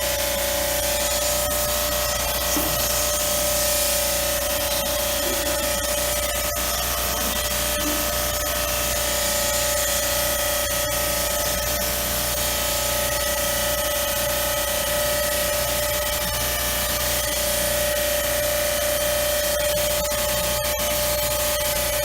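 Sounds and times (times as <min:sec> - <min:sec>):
pressure washer motor whine: 0:00.0 - 0:22.0.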